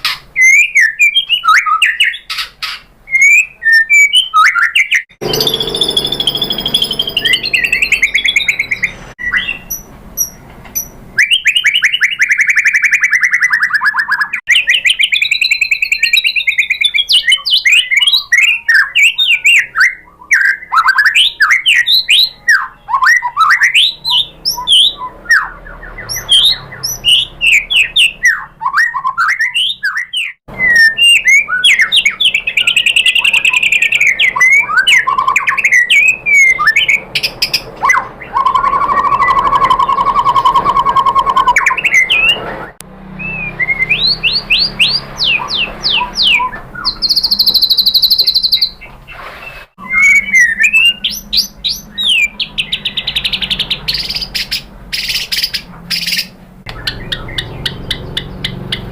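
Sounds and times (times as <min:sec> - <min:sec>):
songbird singing trills and whistles: 0:00.0 - 0:58.9.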